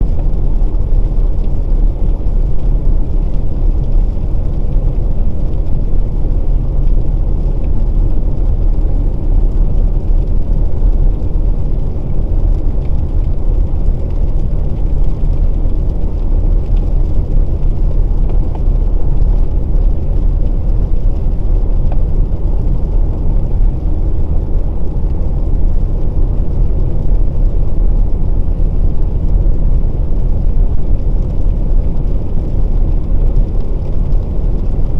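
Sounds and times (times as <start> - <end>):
car driving on wet road: 0.0 - 34.9
low tyre and engine rumble: 0.0 - 34.9.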